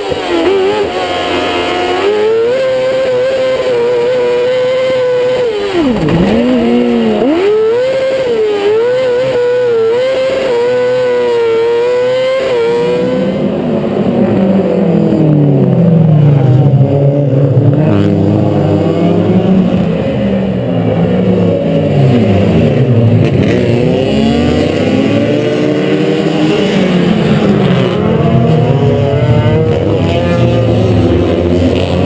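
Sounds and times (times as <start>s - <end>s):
buggy engine screaming: 0.0s - 32.0s
racing car engines revving hard: 0.0s - 32.0s.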